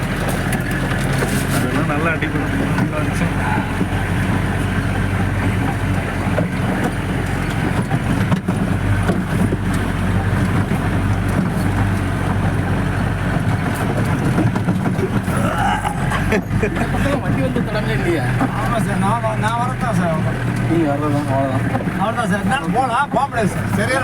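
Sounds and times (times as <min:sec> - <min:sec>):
knocks and rattles: 0:00.0 - 0:20.7
jeep engine running under load: 0:00.0 - 0:24.0.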